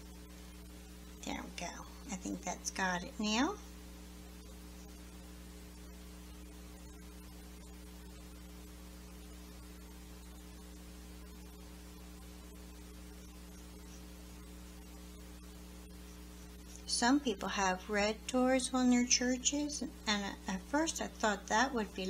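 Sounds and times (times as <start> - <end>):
electrical mains hum: 0.0 - 22.0
faint background hiss: 0.0 - 22.0.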